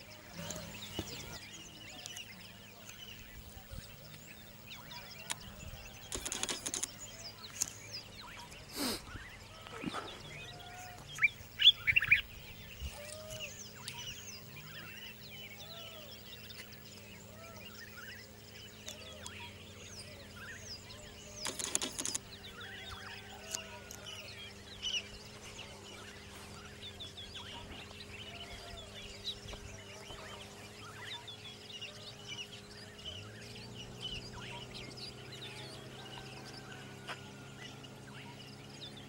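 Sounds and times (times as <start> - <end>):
wild birds chirping: 0.0 - 39.0.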